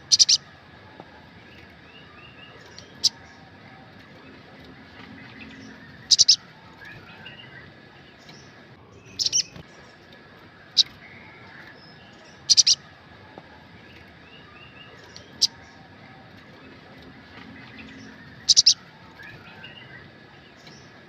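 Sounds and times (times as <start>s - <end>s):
sunbird chirping: 0.0s - 21.0s.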